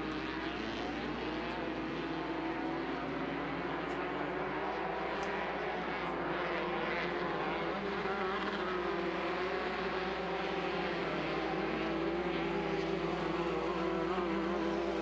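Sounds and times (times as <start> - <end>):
racing buggy engines at speed: 0.0 - 15.0.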